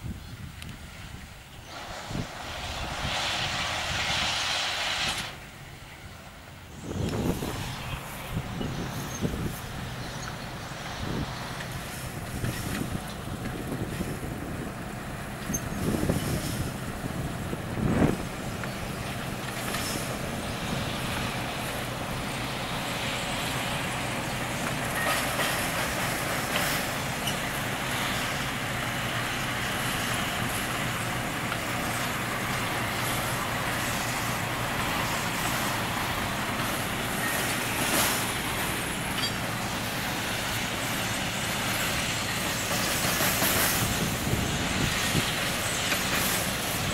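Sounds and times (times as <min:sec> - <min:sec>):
diesel locomotives running: 0:00.0 - 0:46.9
rolling clatter of bins on track: 0:08.6 - 0:46.9.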